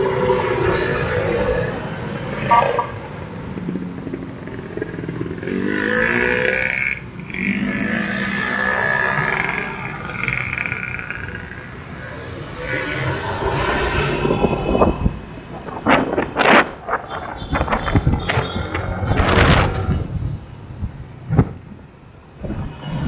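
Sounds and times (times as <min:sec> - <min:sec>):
engine speeding up: 0:00.0 - 0:20.1
motorcycles and scooters running: 0:00.0 - 0:20.5.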